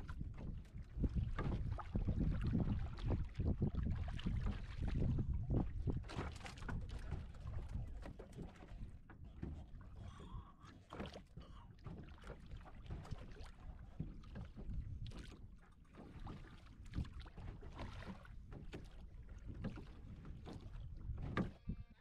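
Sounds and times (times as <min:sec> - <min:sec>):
wind rumble on microphone: 0:00.0 - 0:10.4, 0:12.5 - 0:22.0
water lapping against boat hull: 0:00.0 - 0:22.0.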